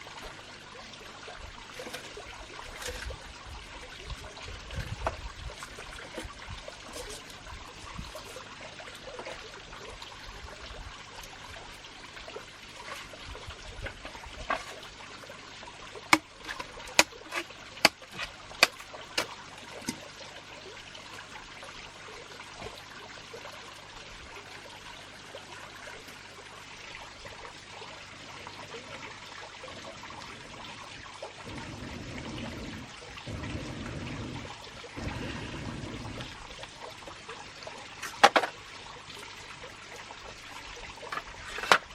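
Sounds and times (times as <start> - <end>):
trickle of running water: 0.0 - 41.9.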